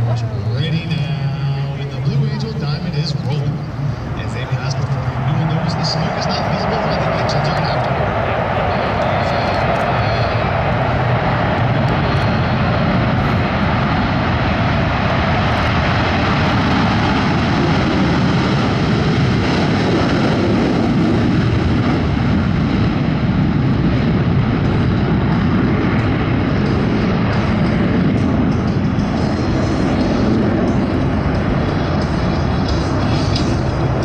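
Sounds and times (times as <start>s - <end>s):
jet engines in afterburner: 0.0s - 34.0s.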